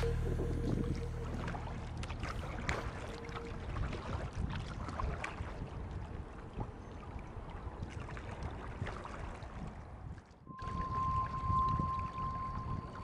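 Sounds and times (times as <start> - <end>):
paddle splashes and drips: 0.0 - 10.9
water lapping against hull: 0.0 - 13.0
wind on microphone: 0.0 - 13.0.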